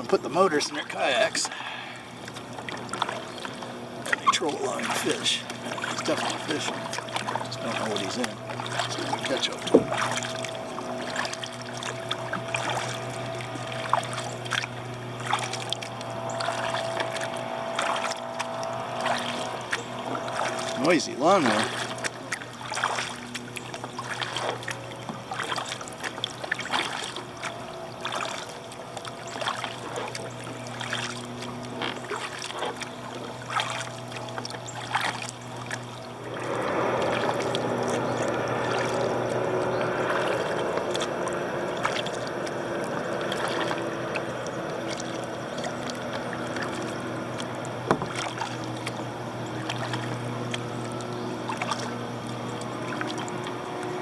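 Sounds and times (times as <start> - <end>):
lawnmower engine droning: 0.0 - 54.0
paddle strokes splashing: 0.0 - 54.0.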